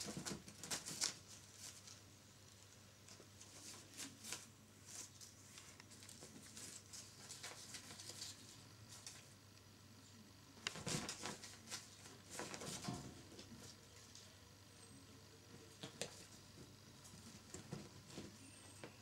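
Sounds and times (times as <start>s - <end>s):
kittens scratching and rustling: 0.0s - 9.6s, 10.6s - 14.7s, 15.5s - 19.0s.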